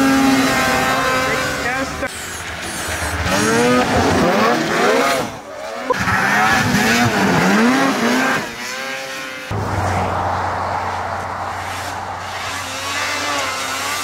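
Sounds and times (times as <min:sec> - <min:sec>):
snowmobile engines revving past: 0:00.0 - 0:14.0.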